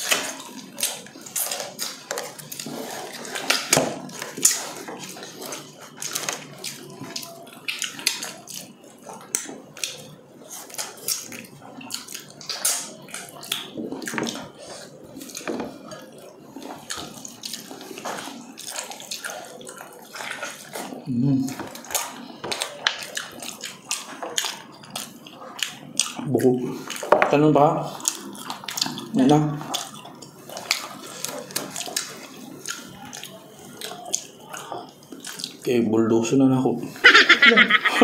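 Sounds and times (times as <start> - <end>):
wet chewing and lip smacking: 0.0 - 27.1, 27.9 - 35.7.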